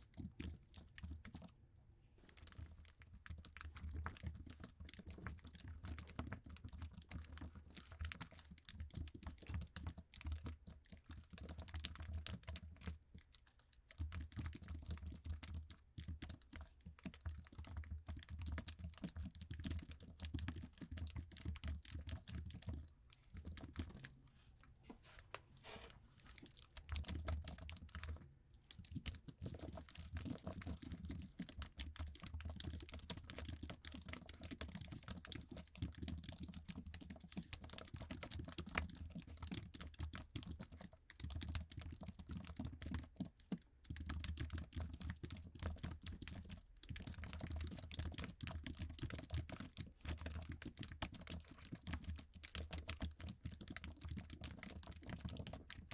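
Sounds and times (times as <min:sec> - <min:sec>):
fast typing on keyboard: 0:00.0 - 0:01.5, 0:02.4 - 0:24.1, 0:26.2 - 0:55.9.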